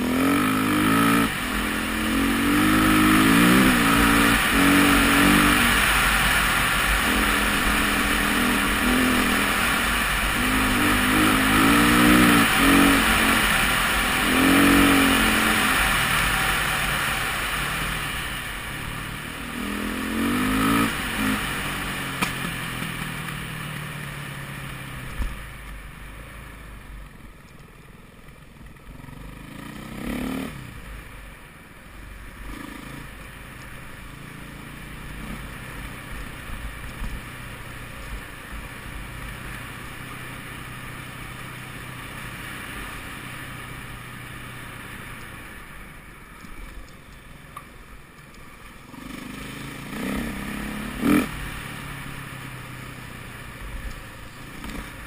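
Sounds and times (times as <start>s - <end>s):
motorcycle engine revving: 0.0s - 27.2s, 28.0s - 31.3s, 32.2s - 46.8s, 48.6s - 55.0s.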